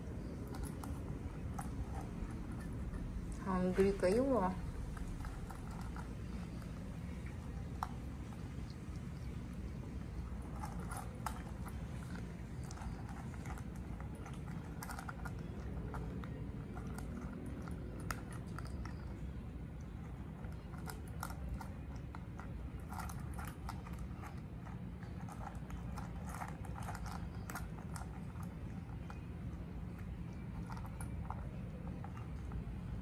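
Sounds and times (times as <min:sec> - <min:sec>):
cats chewing and crunching: 0:00.0 - 0:33.0
low background hum: 0:00.0 - 0:33.0.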